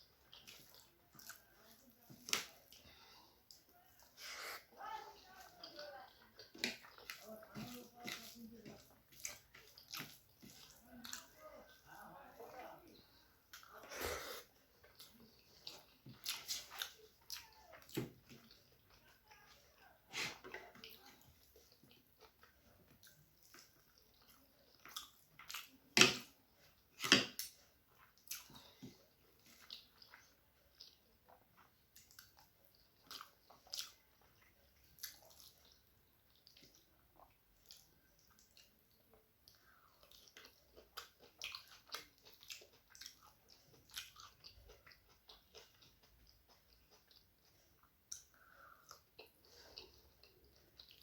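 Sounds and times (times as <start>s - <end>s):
person chewing food: 0.0s - 51.0s.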